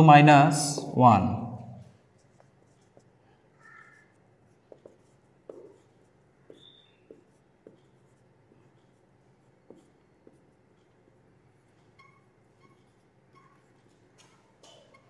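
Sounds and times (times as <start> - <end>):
marker tapping and scratching whiteboard: 1.9 - 15.0.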